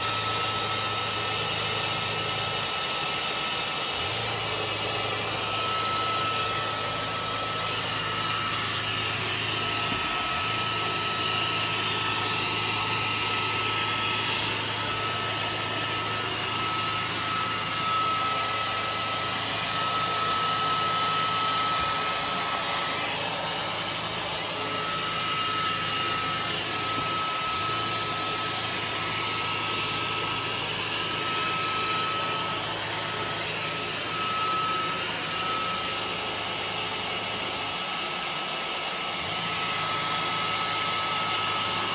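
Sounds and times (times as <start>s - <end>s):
robot vacuum cleaner whirring: 0.0s - 41.9s.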